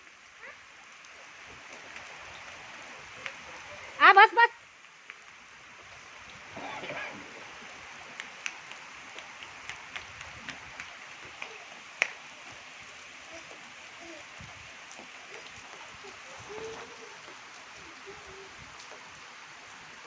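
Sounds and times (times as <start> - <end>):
rain hissing: 0.0 - 20.0
raindrops ticking on surface: 0.0 - 20.0.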